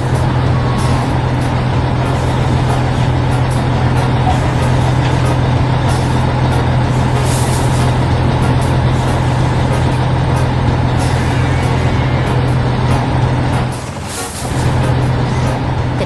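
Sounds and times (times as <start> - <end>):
farm machinery engine running: 0.0 - 16.0.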